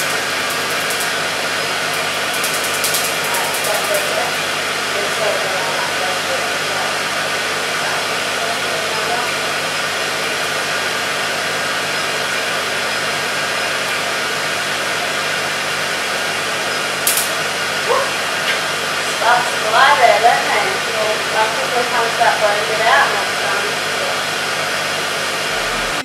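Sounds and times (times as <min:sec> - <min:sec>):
cold air rushing from hose: 0:00.0 - 0:26.0
low machine hum: 0:00.0 - 0:26.0.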